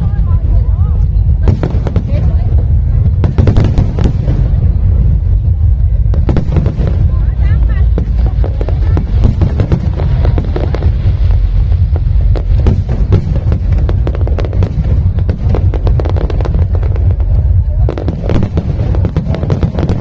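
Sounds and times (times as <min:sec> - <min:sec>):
fireworks crackling and popping: 0:00.0 - 0:20.0
low rumble of bursts: 0:00.0 - 0:20.0.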